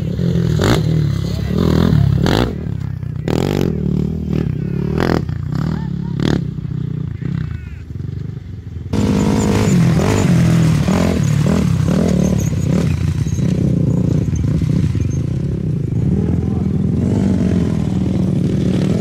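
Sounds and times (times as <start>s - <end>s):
quad engine revving: 0.0s - 19.0s.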